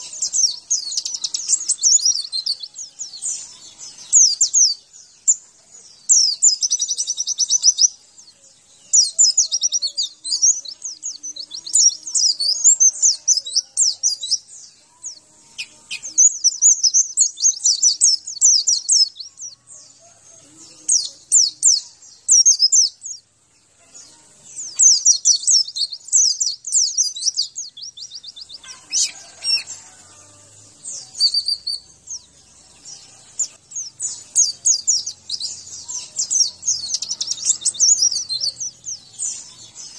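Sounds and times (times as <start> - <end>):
small bird singing high chirps: 0.0 - 39.9.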